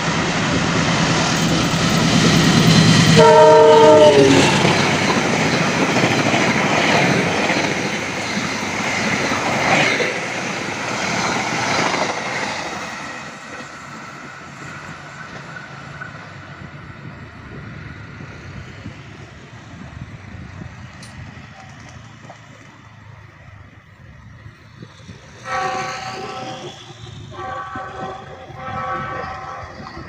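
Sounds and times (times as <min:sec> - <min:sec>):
steady train rumble: 0:00.0 - 0:30.0.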